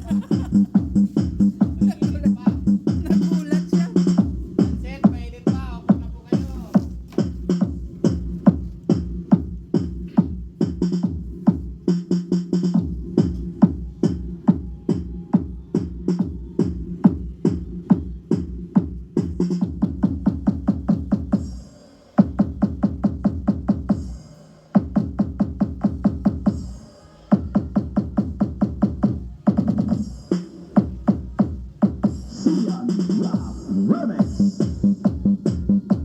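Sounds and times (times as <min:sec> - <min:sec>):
electronic dance music: 0:00.0 - 0:36.0.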